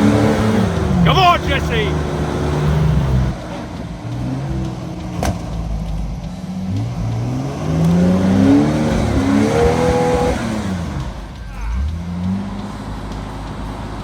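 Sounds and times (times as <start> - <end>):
car engine revving under load: 1.9 - 13.3.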